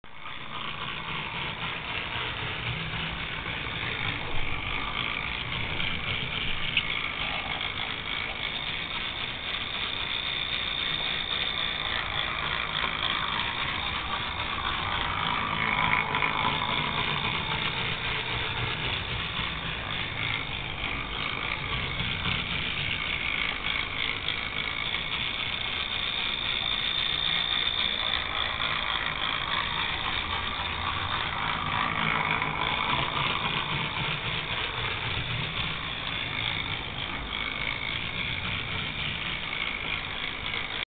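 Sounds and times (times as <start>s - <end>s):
small electric motor whirring: 0.1s - 40.8s.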